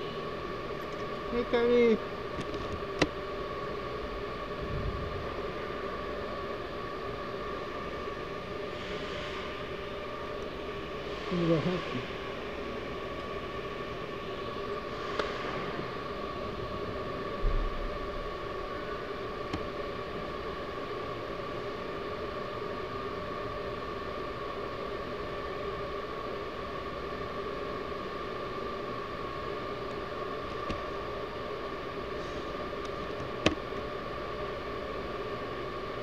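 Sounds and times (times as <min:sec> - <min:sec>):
machine hum with whine: 0:00.0 - 0:36.0.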